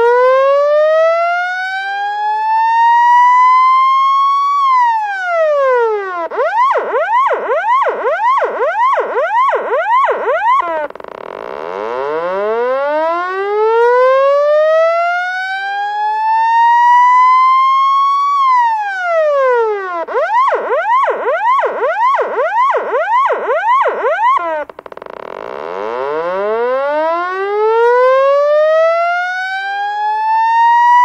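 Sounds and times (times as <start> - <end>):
police siren wailing and yelping: 0.0 - 24.8, 25.6 - 31.0.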